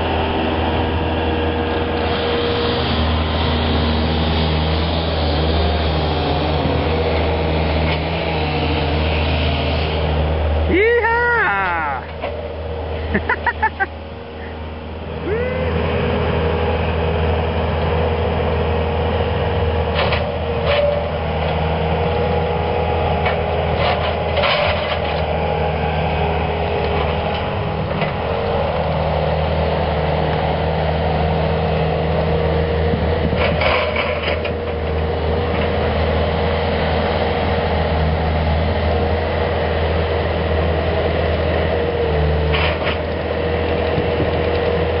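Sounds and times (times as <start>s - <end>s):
loader engine running with whine: 0.0s - 45.0s.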